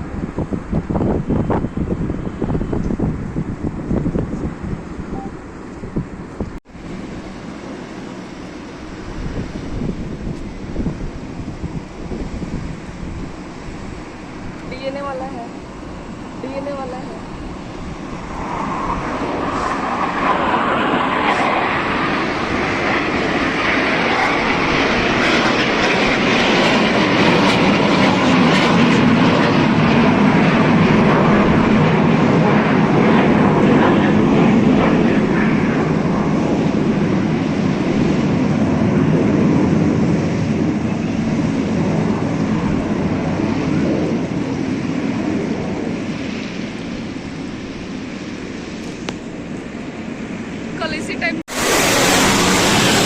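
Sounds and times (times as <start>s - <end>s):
jet aircraft flying past: 0.0s - 53.0s.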